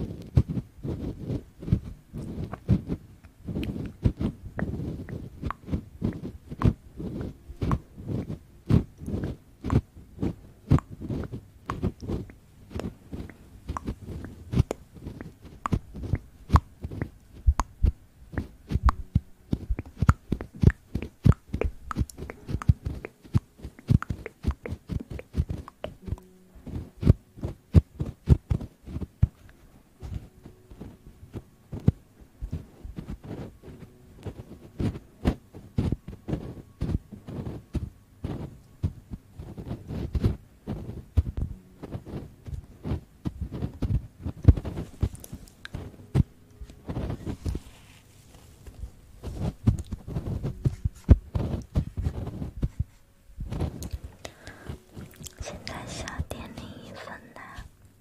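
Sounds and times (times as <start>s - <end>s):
object rubbing against microphone: 0.0s - 29.4s, 30.0s - 57.7s.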